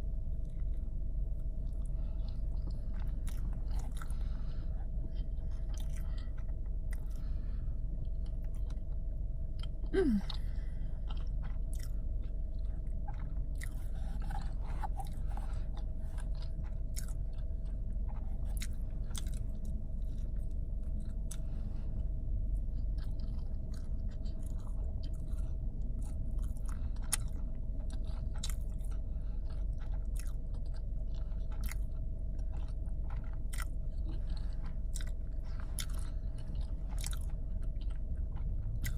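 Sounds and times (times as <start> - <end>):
low car interior hum: 0.0 - 38.9
person chewing food: 0.1 - 38.9.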